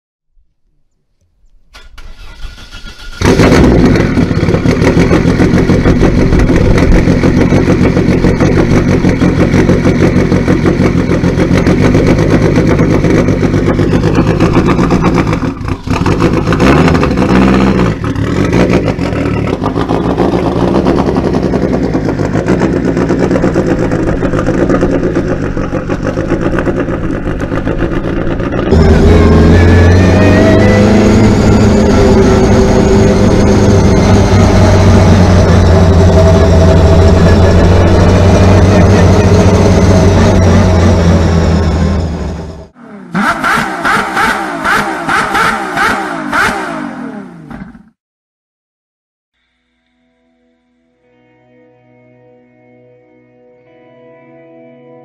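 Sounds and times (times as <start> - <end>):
rally car engine running: 1.7 - 47.9.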